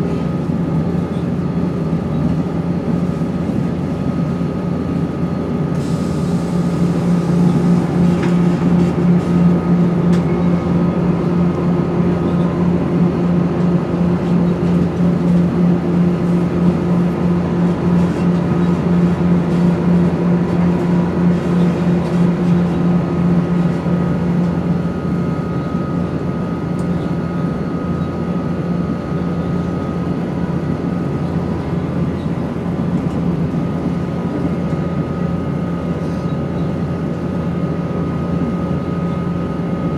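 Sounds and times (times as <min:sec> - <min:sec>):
steady whine: 0:00.0 - 0:39.9
train diesel engine running: 0:00.0 - 0:39.9.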